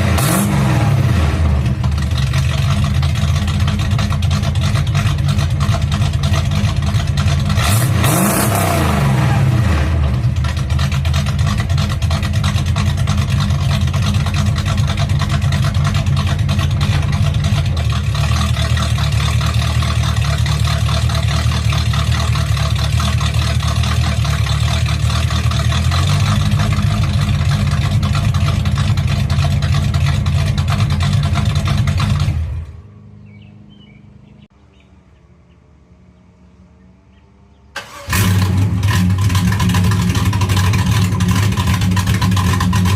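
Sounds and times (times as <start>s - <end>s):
car engine revving and idling: 0.0s - 34.5s, 37.8s - 42.9s.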